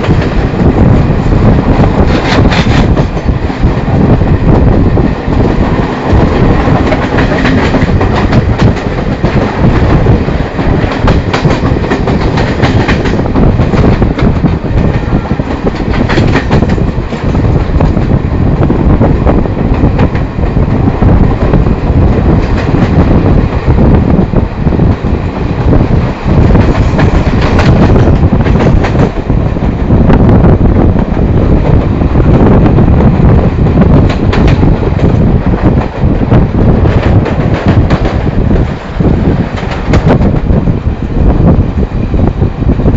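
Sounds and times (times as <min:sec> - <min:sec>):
train rumbling at speed: 0:00.0 - 0:42.9.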